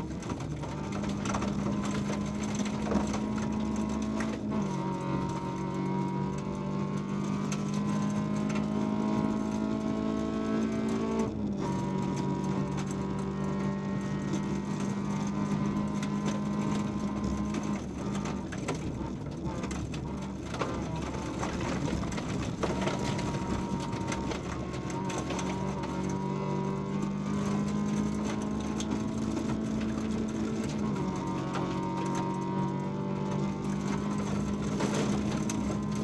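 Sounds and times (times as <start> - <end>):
gravel road noise: 0.0 - 36.0
rally car engine at high revs: 0.0 - 36.0.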